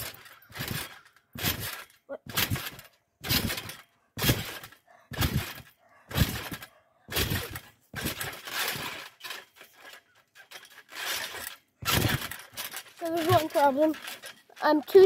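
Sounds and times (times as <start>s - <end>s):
trampoline mat clicks and rattles: 0.0s - 15.0s
trampoline thumping and jangling: 0.0s - 15.0s.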